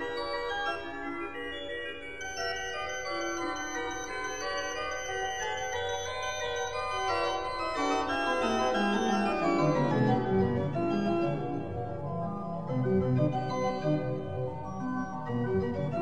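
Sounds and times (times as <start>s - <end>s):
keyboard music: 2.1s - 16.0s.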